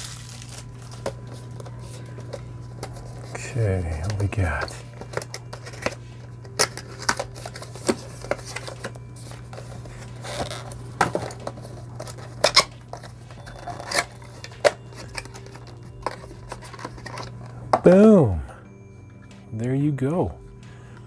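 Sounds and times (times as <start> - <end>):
packaging rustling: 0.0 - 17.9
steady low hum: 0.0 - 21.0.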